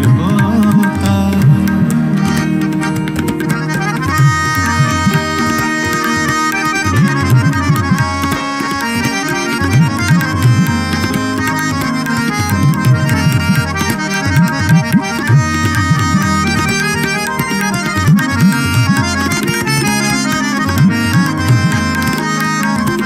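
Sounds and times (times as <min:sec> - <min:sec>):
sustained harmonium tones: 0:00.0 - 0:23.0.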